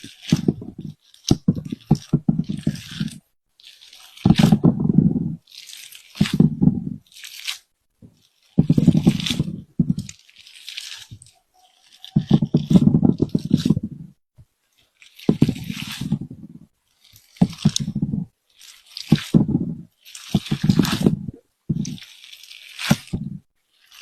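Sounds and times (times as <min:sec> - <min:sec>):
crunching and squishing: 0:00.0 - 0:24.0.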